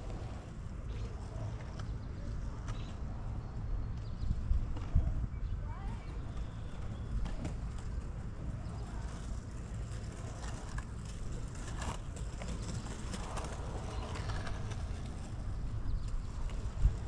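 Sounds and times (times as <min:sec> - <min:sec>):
skateboard rolling on asphalt: 0:00.0 - 0:17.0
wind rumbling on microphone: 0:00.0 - 0:17.0.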